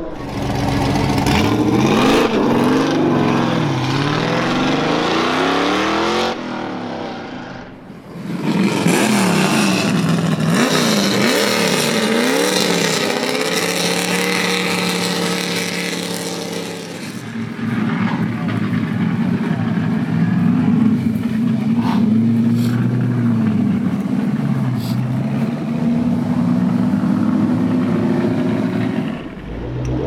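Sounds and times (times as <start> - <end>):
car engines accelerating hard: 0.0 - 30.0.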